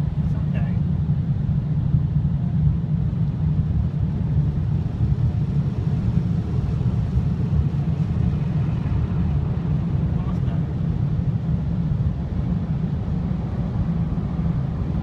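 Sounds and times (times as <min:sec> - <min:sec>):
low rumble inside car: 0:00.0 - 0:15.0.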